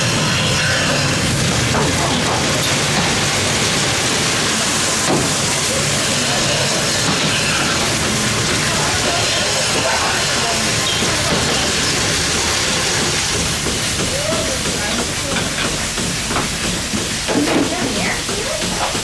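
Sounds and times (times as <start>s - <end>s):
milking machinery pump running: 0.0s - 19.0s.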